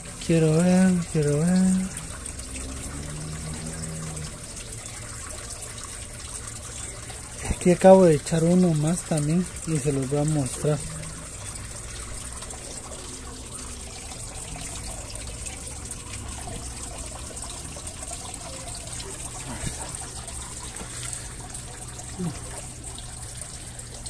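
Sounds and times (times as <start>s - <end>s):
water trickling into fish tank: 0.0s - 24.0s.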